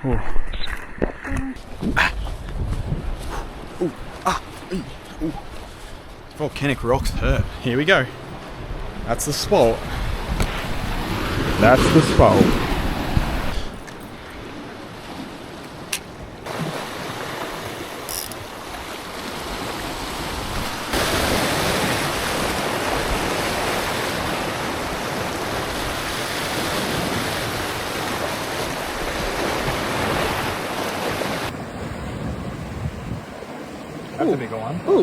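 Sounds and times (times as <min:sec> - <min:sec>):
ocean surf on rocks: 0:00.8 - 0:35.0.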